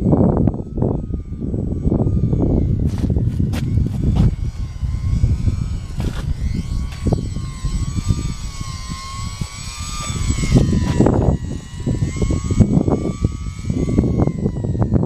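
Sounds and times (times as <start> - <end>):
small electric motor and propeller whining: 0.0 - 15.0
wind buffeting microphone: 0.0 - 15.0.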